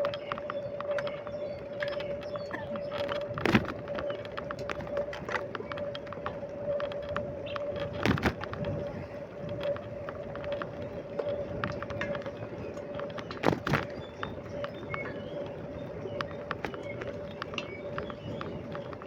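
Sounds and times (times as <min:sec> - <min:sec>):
bicycle being ridden: 0:00.0 - 0:19.0
bicycle clicks and rattles: 0:00.0 - 0:19.0.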